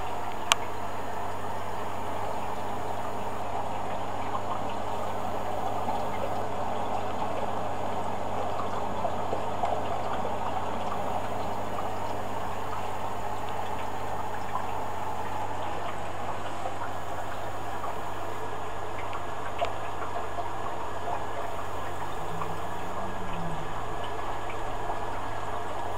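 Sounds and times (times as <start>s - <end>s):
low hum: 0.0s - 25.9s.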